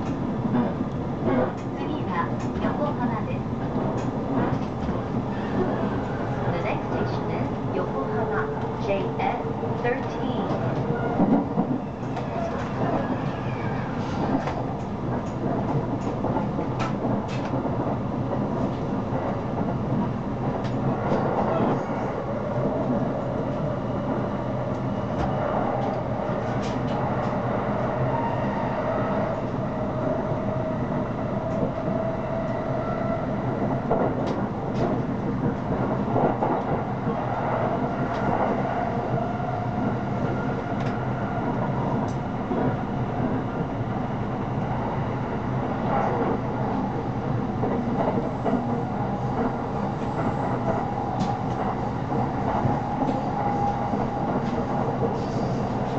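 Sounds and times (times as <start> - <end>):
rail clicks: 0.0 - 28.0, 33.5 - 43.7, 45.7 - 55.9
train wheels rumbling on rails: 0.0 - 55.9.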